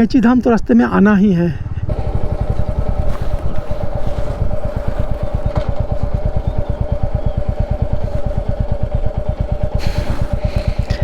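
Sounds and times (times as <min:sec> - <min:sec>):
motorcycle engine running: 0:01.9 - 0:11.0.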